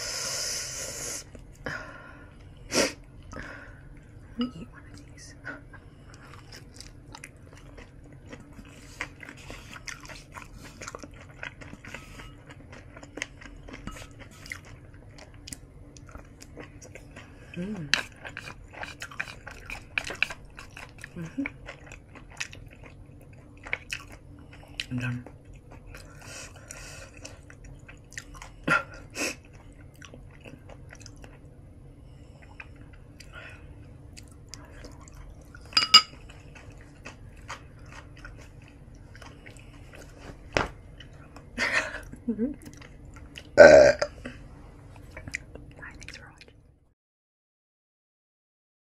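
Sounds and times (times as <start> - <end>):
chewing and wet mouth sounds: 3.9 - 43.6, 44.9 - 46.7.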